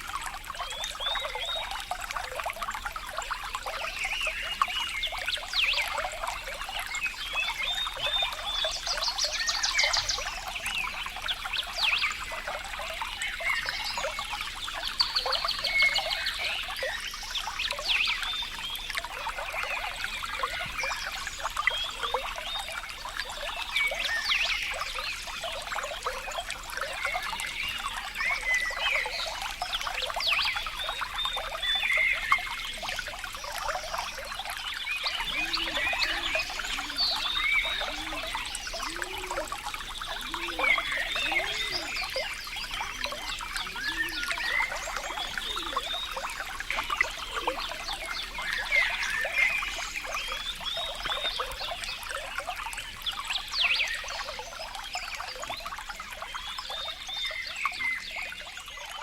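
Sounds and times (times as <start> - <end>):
water trickling and bubbling: 0.0 - 59.0.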